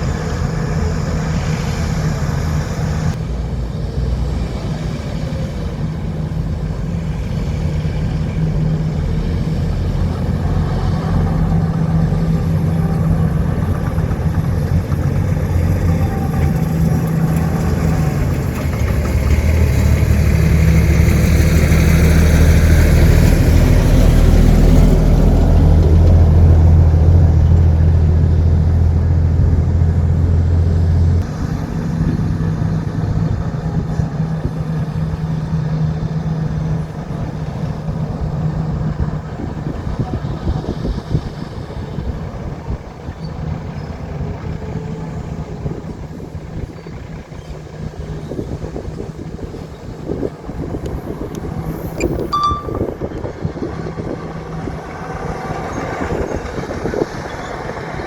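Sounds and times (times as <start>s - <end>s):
large diesel engine under load: 0.0s - 58.0s.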